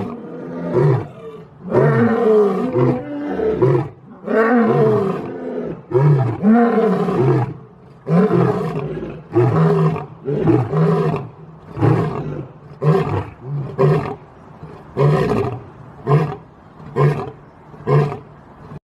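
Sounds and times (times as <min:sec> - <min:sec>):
lion roaring: 0:00.0 - 0:18.8.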